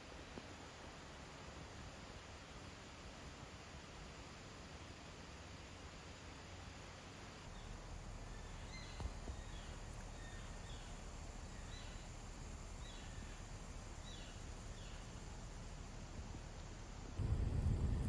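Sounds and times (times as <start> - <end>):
outdoor hiss: 0.0 - 18.0.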